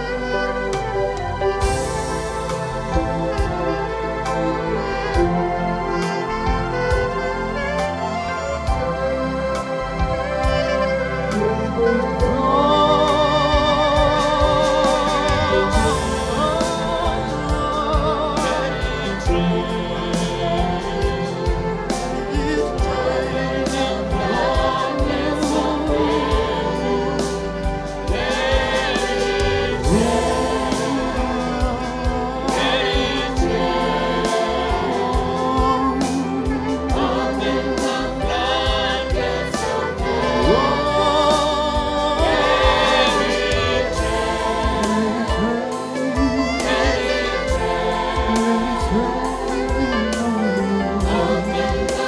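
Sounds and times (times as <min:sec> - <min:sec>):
band playing: 0:00.0 - 0:52.0
choir singing: 0:00.0 - 0:52.0.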